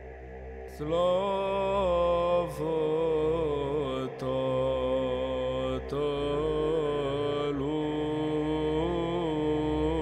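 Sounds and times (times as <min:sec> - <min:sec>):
church chant singing: 0:00.0 - 0:10.0
steady held vocal drone: 0:00.0 - 0:10.0.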